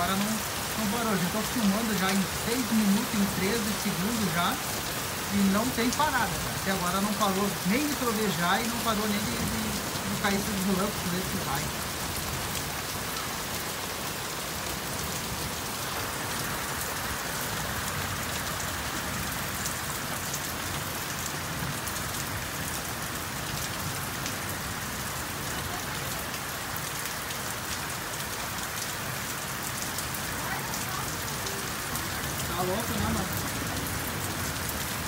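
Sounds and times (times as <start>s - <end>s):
heavy rain pouring off roof: 0.0s - 35.0s.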